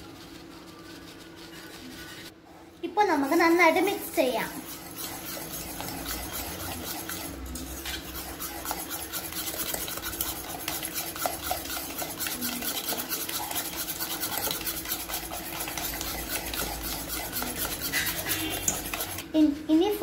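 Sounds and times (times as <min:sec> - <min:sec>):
whisk scraping in a metal pot: 0:00.0 - 0:02.4, 0:03.1 - 0:19.3.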